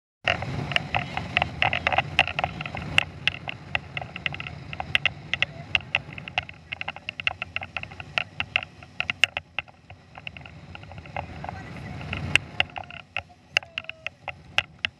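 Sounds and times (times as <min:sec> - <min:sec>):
low boat engine rumble: 0:00.2 - 0:14.9
water slapping boat hull: 0:00.2 - 0:14.9.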